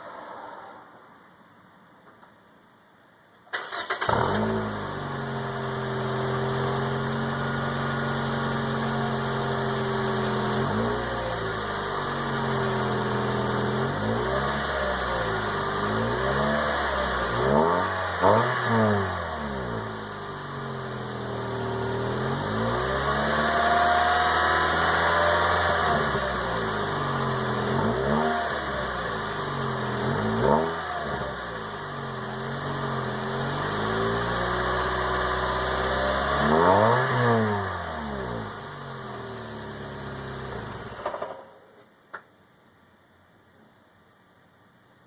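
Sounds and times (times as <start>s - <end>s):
car engine revving: 3.6s - 41.3s.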